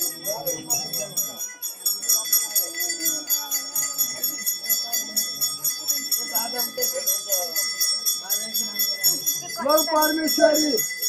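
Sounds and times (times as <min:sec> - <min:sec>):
crowd voices: 0:00.0 - 0:11.0
jingle bells shaken: 0:00.0 - 0:11.0.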